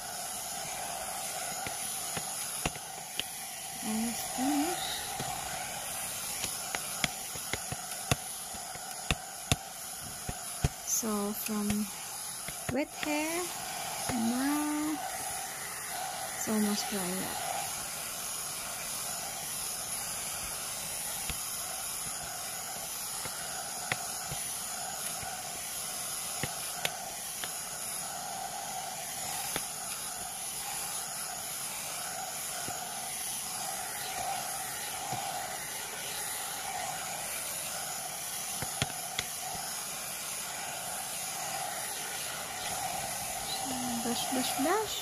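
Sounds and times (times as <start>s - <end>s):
hot air brush blowing: 0.0s - 45.0s.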